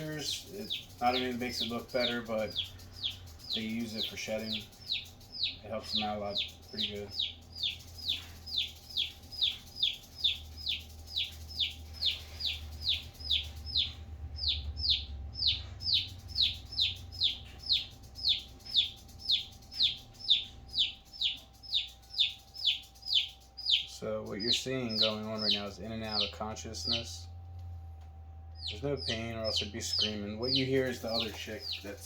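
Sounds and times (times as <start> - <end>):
chick peeping: 0.0 - 27.0, 28.6 - 32.0.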